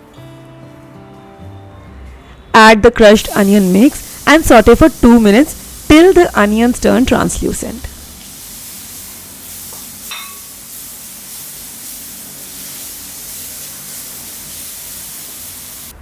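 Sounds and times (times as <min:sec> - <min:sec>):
onion sizzling in hot oil: 0:03.0 - 0:16.0.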